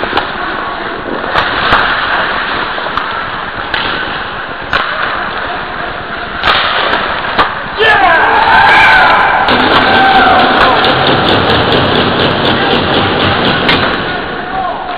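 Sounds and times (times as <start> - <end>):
sticks and puck clacking: 0.0 - 7.8, 9.5 - 14.9.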